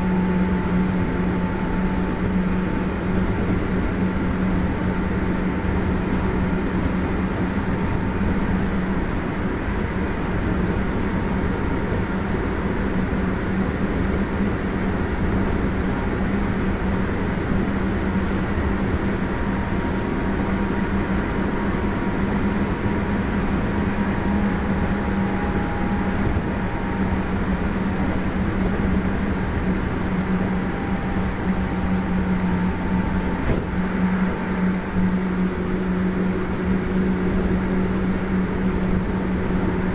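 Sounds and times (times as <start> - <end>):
electric train hum: 0.0 - 39.9
wheel and rail noise: 0.0 - 39.9.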